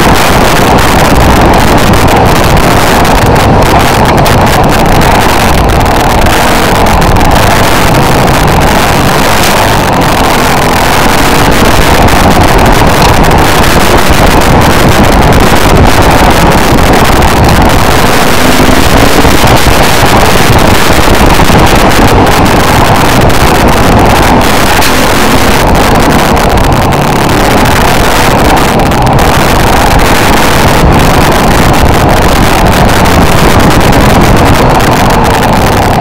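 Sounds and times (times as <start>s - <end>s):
off-road vehicle engine running: 0.0s - 36.0s
wind buffeting microphone: 0.0s - 36.0s.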